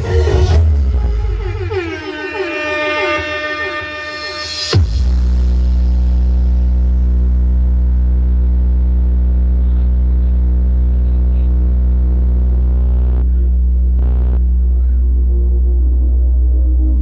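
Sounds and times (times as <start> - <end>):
deep steady bass tone: 0.0 - 2.3, 4.8 - 17.0.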